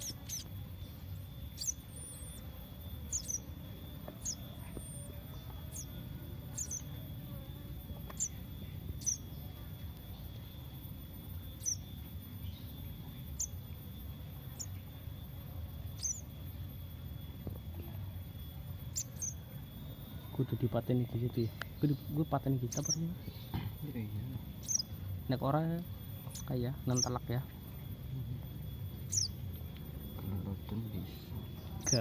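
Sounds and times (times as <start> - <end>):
baby bird chirping: 0.0 - 32.0
steady low rumble: 0.0 - 32.0.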